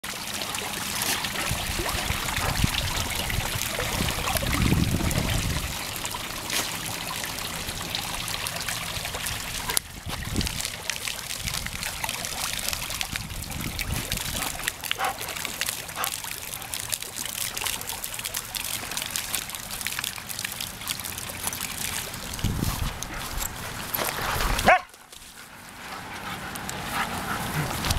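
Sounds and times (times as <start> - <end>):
fountain water trickling and splashing: 0.0 - 27.9.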